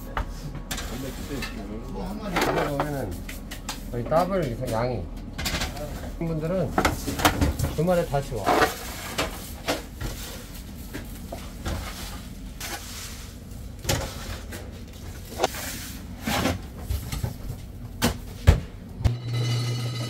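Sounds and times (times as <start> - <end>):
steady kitchen hum: 0.0 - 20.0.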